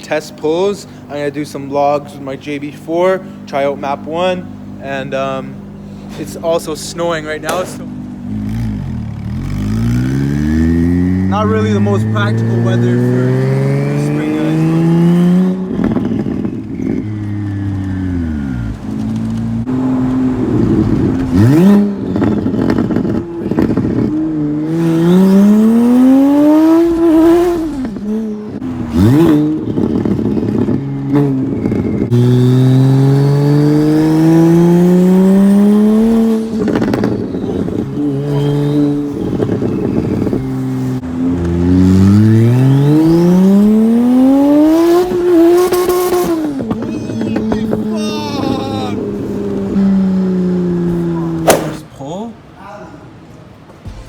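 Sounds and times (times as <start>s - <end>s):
car engine accelerating: 1.4s - 51.9s.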